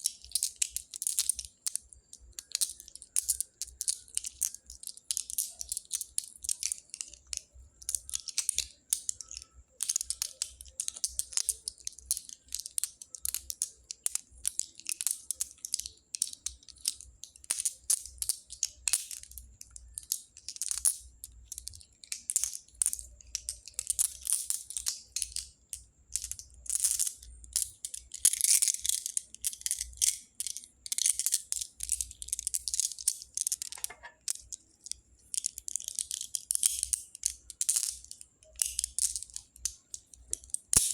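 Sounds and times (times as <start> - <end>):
pebbles clicking and rattling: 0.0 - 40.9.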